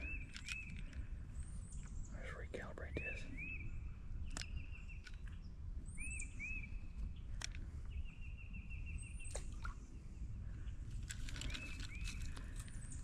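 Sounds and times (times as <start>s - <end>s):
songbirds calling: 0.0s - 13.0s.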